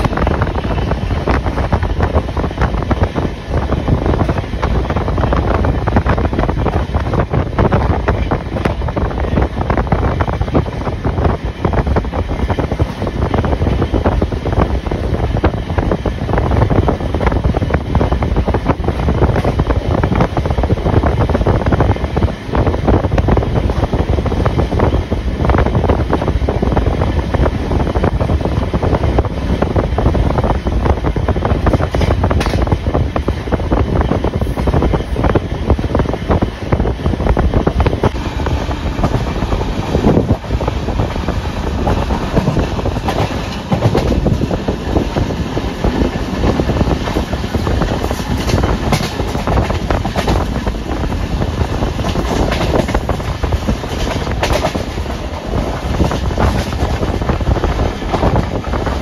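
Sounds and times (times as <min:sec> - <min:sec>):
train rumbling and rattling: 0:00.0 - 0:59.0
wind on microphone: 0:00.0 - 0:59.0.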